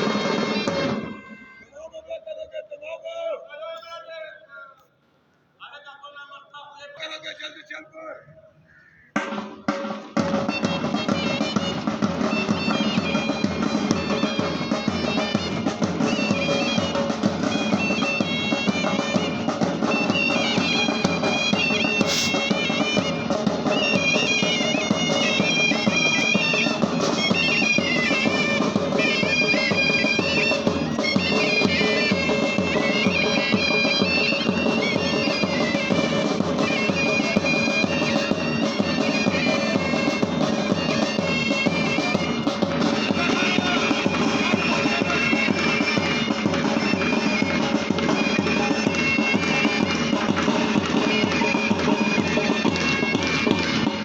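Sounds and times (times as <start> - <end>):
bagpipe band playing a march: 0.0 - 2.0, 9.2 - 54.0.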